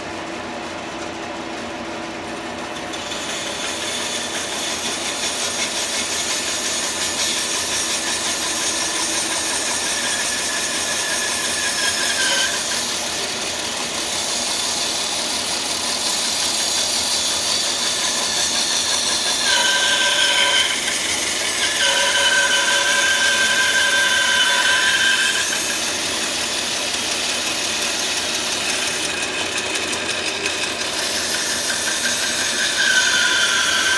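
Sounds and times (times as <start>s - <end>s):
bandsaw cutting wood: 2.3s - 33.9s.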